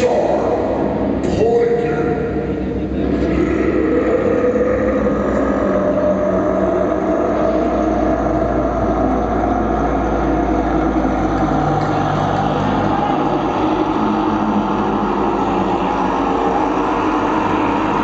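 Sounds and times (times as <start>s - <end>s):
synthesizer drone: 0.0s - 18.0s.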